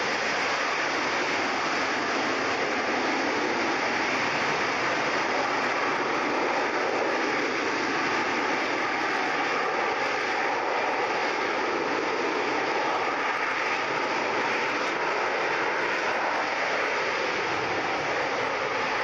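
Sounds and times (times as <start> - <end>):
hovering jet engine noise: 0.0 - 19.0.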